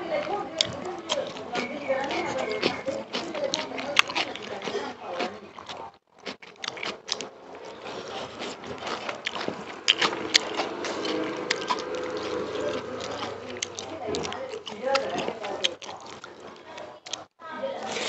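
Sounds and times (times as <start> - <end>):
wet chewing and lip-smacking: 0.0 - 18.0
fingers squishing rice: 0.1 - 18.0.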